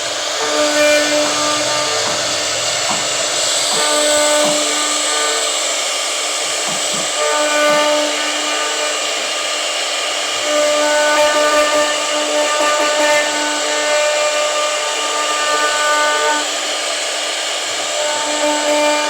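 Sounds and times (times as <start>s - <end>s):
router spindle cutting wood: 0.0s - 19.0s.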